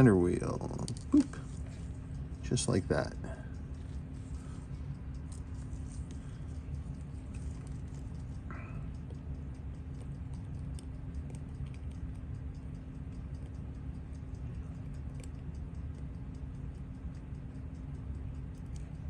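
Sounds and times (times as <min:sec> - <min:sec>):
steady low hum: 0:00.0 - 0:19.0
clock ticking: 0:01.7 - 0:19.0.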